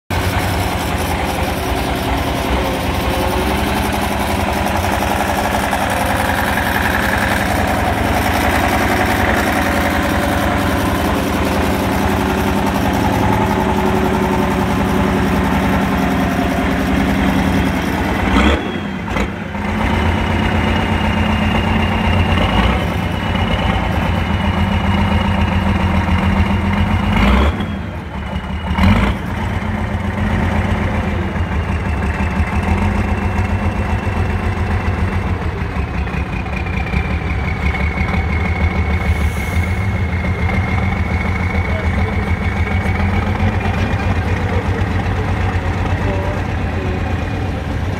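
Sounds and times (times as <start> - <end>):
diesel truck engine under load: 0.0 - 47.9.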